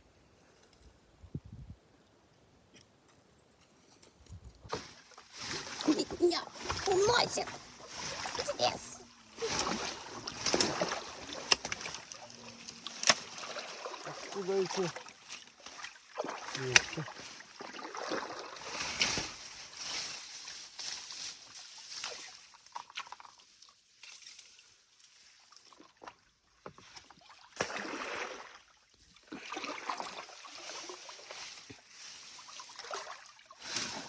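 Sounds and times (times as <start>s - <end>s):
water splashing and sloshing: 4.7s - 34.0s.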